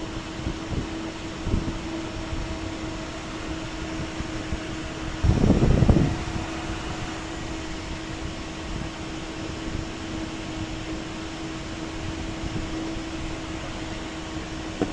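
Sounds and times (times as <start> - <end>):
cooling fans humming: 0.0 - 14.9.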